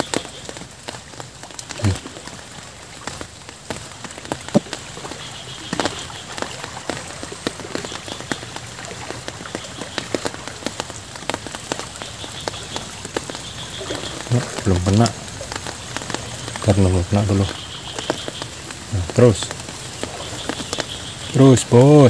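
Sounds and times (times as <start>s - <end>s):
raindrops tapping close by: 0.0s - 22.0s
steady rain falling: 0.0s - 22.0s.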